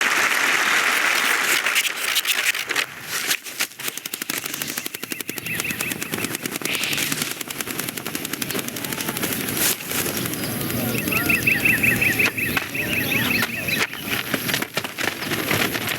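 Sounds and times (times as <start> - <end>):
fast sharp clicks and rattles: 0.0 - 15.9.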